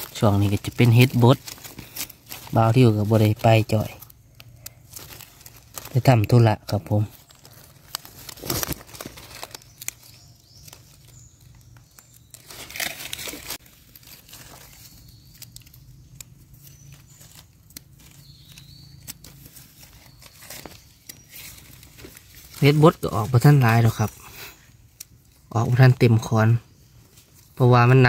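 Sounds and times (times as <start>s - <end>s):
dry leaves rustling: 0.0s - 26.3s.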